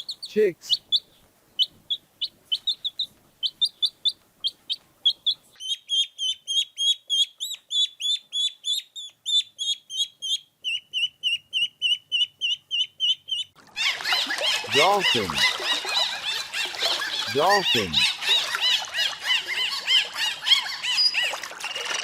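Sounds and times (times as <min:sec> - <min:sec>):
baby chicks peeping: 0:00.0 - 0:21.1.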